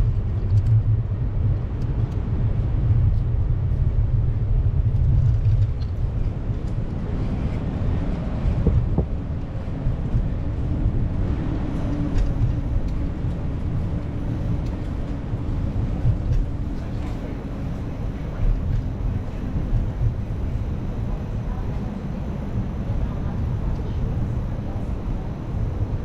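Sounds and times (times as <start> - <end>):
city traffic rumble: 0.0 - 26.0
engine hum: 0.0 - 26.0.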